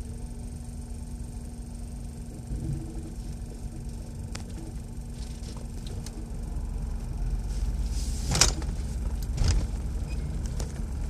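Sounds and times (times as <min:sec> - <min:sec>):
low vehicle rumble inside car: 0:00.0 - 0:11.0.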